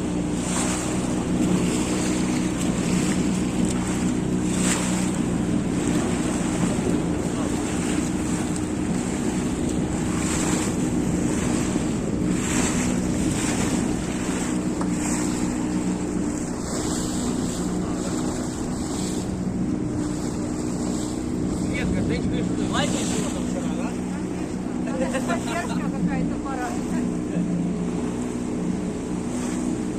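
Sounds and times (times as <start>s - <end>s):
outboard motor humming: 0.0s - 29.9s
water splashing against hull: 0.0s - 29.9s.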